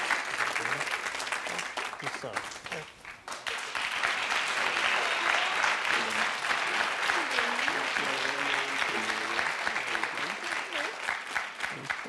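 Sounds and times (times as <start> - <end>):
studio audience applauding: 0.0 - 12.0.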